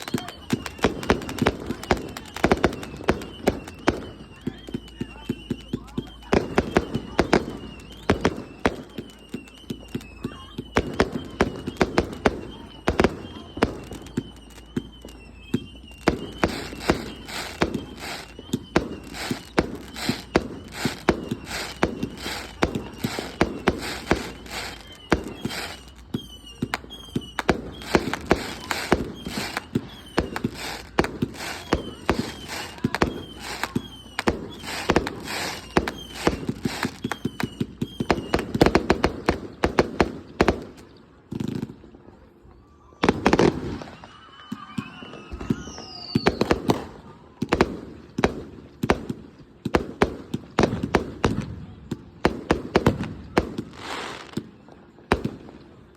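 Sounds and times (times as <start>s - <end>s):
fireworks bangs and pops: 0.0s - 42.0s, 43.0s - 55.9s.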